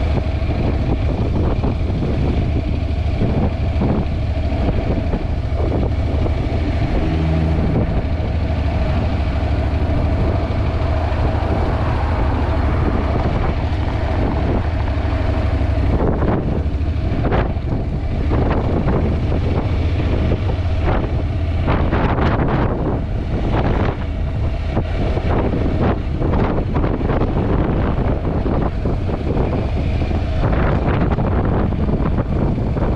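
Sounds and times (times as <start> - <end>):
wind buffeting on microphone: 0.0 - 32.9.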